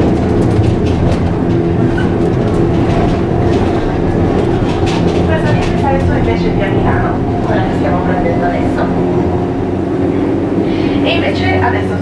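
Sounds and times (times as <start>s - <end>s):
tram hum: 0.0s - 12.0s
wheels clicking on rails: 0.0s - 12.0s.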